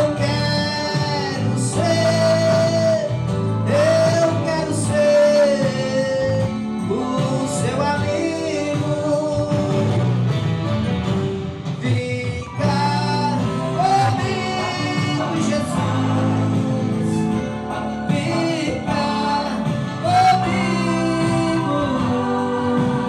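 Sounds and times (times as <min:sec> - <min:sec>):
man singing into a microphone: 0:00.0 - 0:10.2, 0:11.7 - 0:23.0
instrumental accompaniment: 0:00.0 - 0:23.0.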